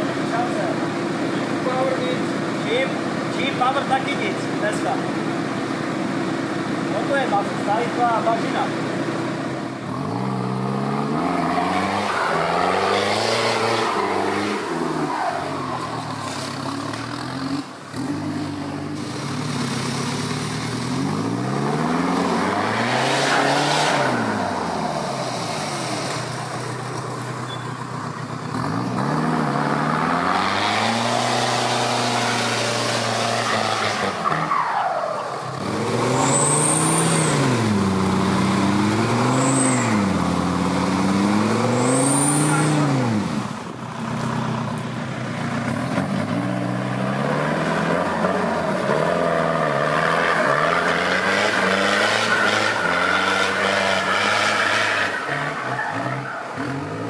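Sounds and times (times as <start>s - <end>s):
off-road vehicle engine revving: 0.0s - 44.8s, 45.4s - 57.0s.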